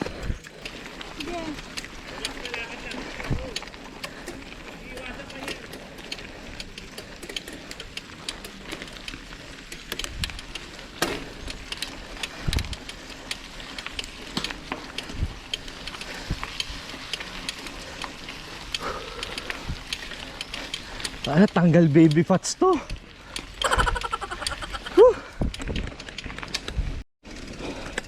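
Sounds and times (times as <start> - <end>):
bike clicks and rattles: 0.0 - 28.0.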